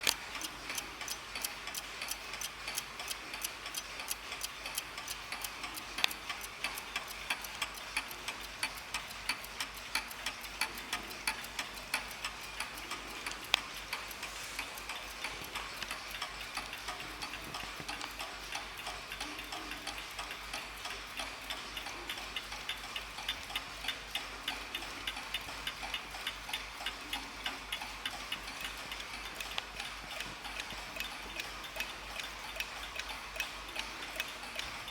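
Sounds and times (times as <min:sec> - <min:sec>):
mantel clocks ticking: 0:00.0 - 0:34.9.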